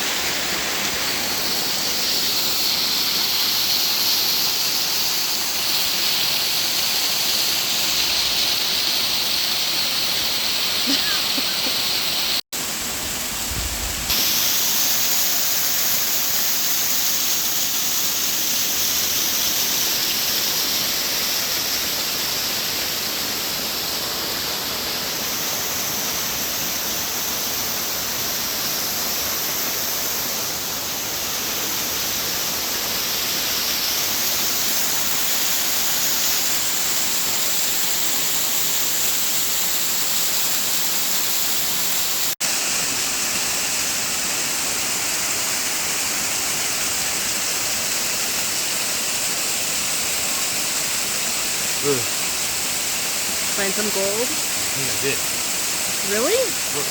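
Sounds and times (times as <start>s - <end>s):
waterfall rushing: 0.0s - 6.8s, 18.0s - 56.9s.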